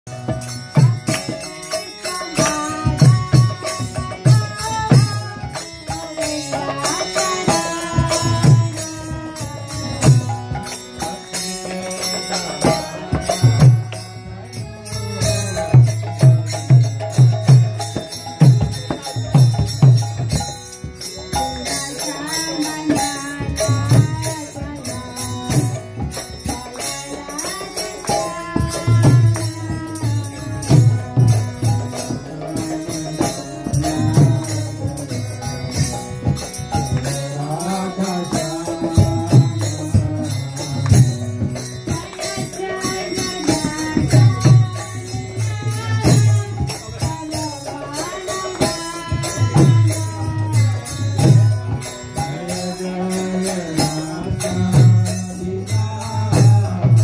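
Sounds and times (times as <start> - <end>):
sharp metallic percussion: 0.0 - 57.0
steady drum beats: 0.1 - 57.0.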